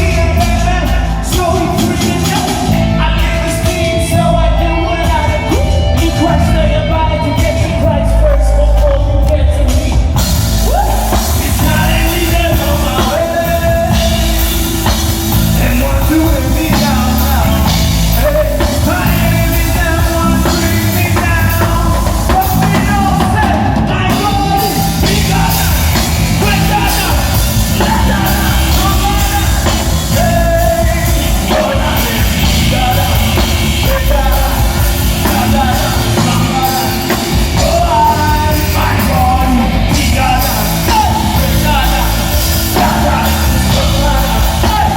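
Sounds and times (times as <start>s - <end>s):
lead singer's voice: 0.0s - 44.9s
live band playing: 0.0s - 44.9s.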